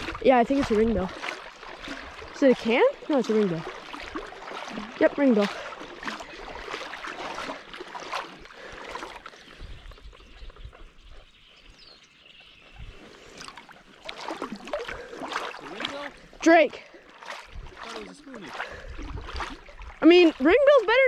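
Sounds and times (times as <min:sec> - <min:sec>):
paddle strokes splashing: 0:00.0 - 0:21.0
water trickling off paddle: 0:00.0 - 0:21.0.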